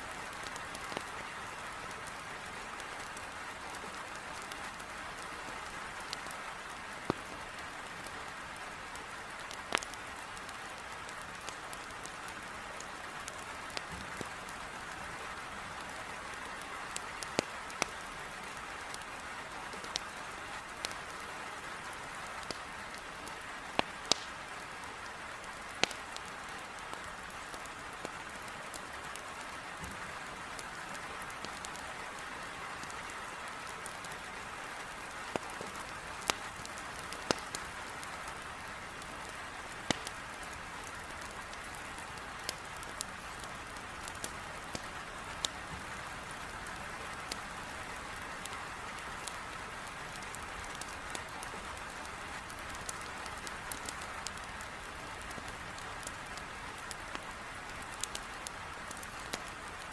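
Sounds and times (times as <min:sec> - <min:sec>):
heavy rain against a window: 0:00.0 - 0:59.9
wood fire crackling: 0:00.0 - 0:59.9.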